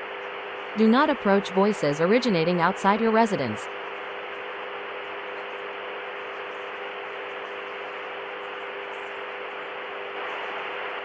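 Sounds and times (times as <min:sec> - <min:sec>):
low hum of held tones: 0:00.0 - 0:11.0.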